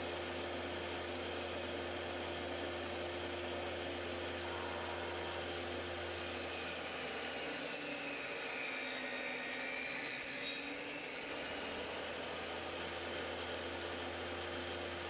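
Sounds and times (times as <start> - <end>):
table saw cutting wood: 0.0 - 15.0.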